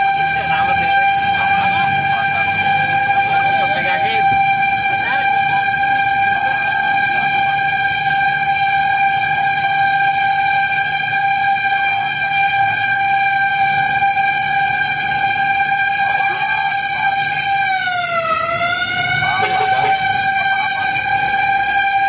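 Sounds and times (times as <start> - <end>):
fire truck horn tone: 0.0 - 22.0
truck engine rumble: 0.0 - 22.0.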